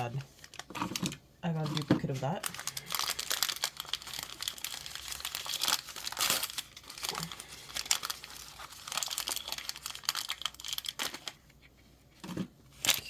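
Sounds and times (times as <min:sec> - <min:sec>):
packaging crinkling: 0:00.0 - 0:11.5.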